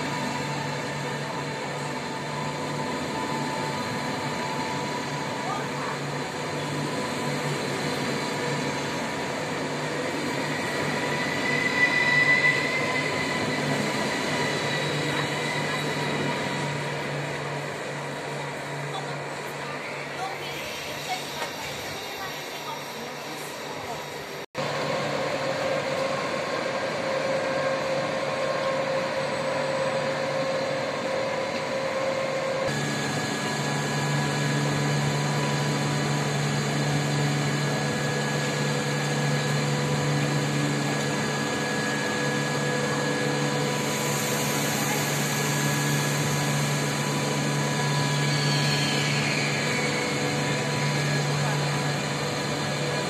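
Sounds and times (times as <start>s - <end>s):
machinery hum: 0.0s - 53.0s.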